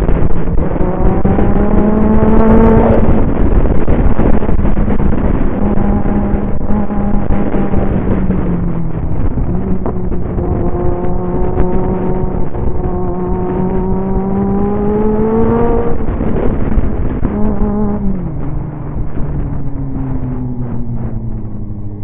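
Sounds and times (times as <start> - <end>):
motorcycle engine accelerating: 0.0 - 22.0
wind rush on microphone: 0.0 - 22.0.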